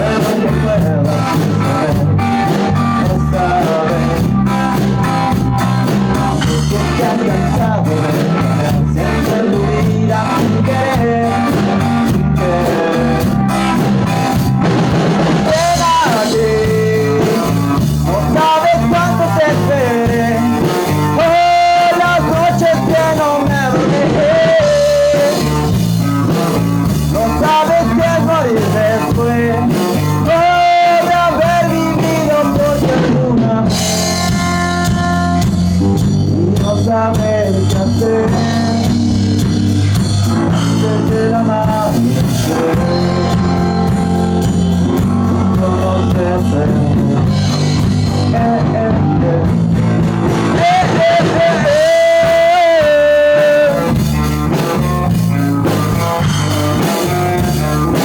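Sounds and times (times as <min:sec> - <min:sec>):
person singing: 0:00.0 - 0:58.0
rock music with guitar and drums: 0:00.0 - 0:58.0.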